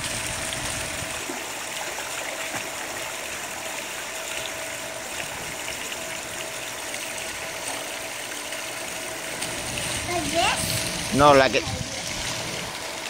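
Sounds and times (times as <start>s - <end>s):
pool water rushing: 0.0s - 13.0s.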